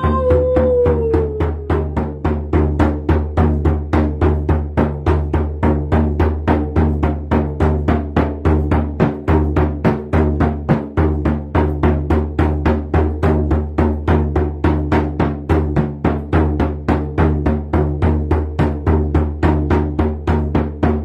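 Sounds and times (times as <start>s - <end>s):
hand drum beating: 0.0s - 21.0s.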